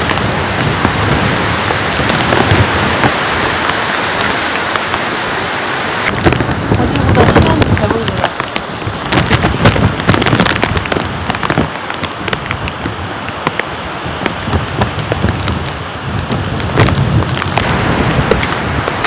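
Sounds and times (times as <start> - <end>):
close raindrop impacts: 0.0 - 5.2, 6.0 - 19.0
heavy rain falling: 0.0 - 19.0.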